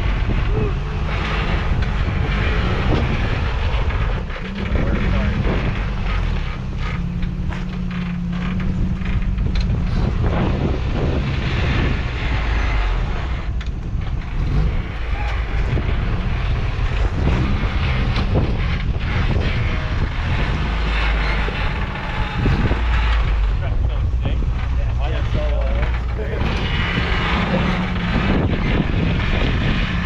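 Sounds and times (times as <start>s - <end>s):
knocks and clunks: 0.0s - 30.0s
truck engine at low revs: 0.0s - 30.0s.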